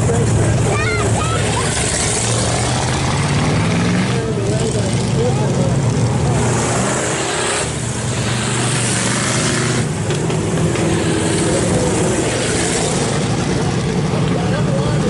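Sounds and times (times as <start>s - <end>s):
broad rushing noise: 0.0s - 15.0s
race car engines running: 0.0s - 15.0s.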